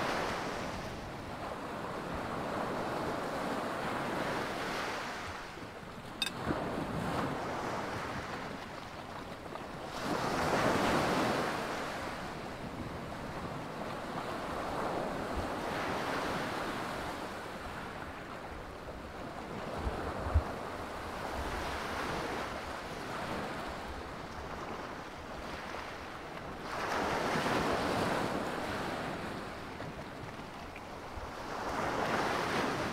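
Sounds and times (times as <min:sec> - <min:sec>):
sea waves breaking on shore: 0:00.0 - 0:32.9.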